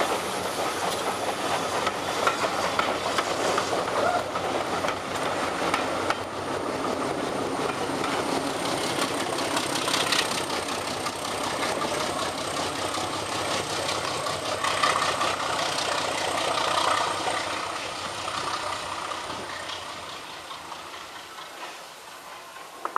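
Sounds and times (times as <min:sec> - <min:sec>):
diesel locomotive engine: 0:00.0 - 0:22.9.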